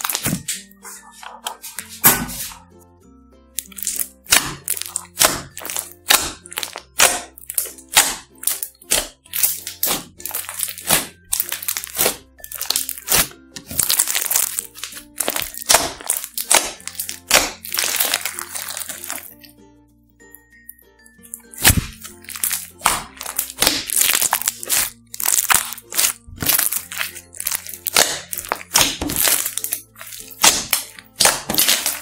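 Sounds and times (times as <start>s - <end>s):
light background music: 0.0s - 32.0s
slime squeezed by hand crackling: 3.6s - 19.4s, 21.3s - 32.0s.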